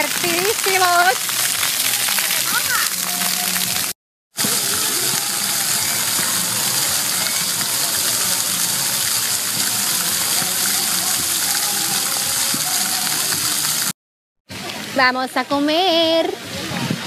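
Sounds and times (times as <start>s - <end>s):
fountain jets spraying water: 0.0s - 13.9s.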